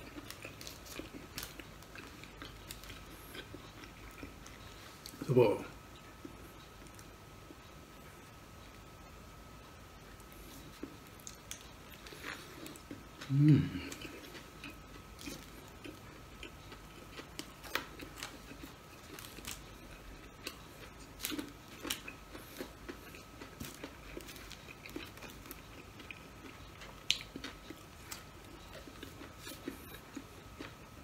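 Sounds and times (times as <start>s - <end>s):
person chewing food: 0.0s - 8.9s, 10.0s - 31.0s.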